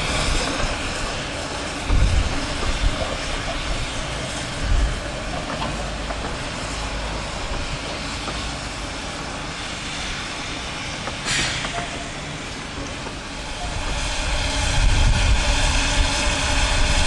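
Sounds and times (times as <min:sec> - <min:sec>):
miniature train rumble and hiss: 0:00.0 - 0:17.0.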